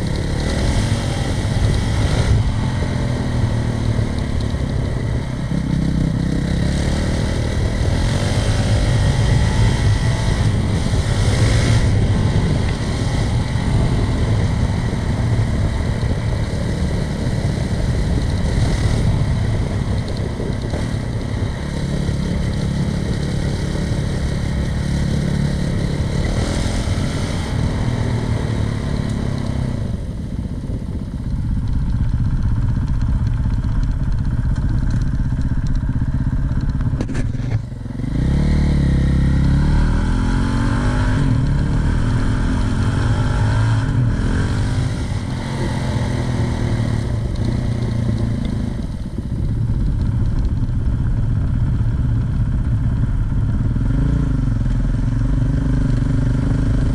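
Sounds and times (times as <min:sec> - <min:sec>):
dirt bike engine running: 0:00.0 - 0:56.9.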